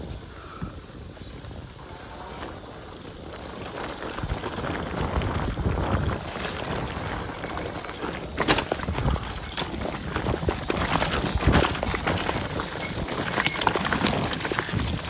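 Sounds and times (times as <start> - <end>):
bike rattling over stones: 0.0 - 15.0
tyres crunching on gravel: 0.0 - 15.0
wind buffeting microphone: 0.0 - 15.0.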